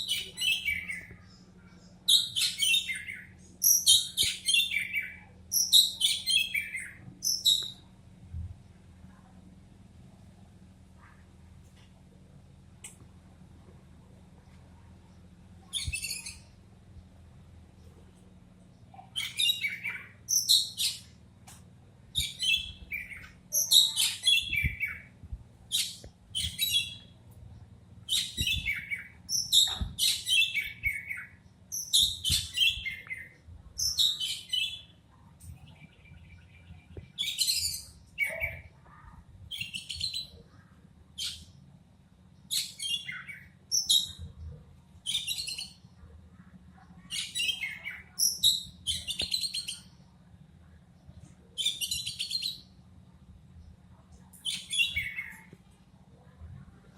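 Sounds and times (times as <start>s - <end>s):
faint low hum: 0.0s - 56.9s.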